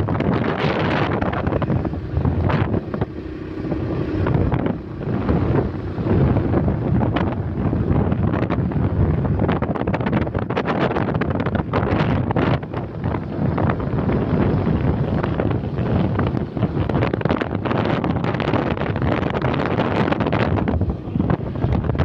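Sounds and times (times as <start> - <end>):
vehicle road and engine noise: 0.0 - 22.0
wind buffeting microphone: 0.0 - 22.0.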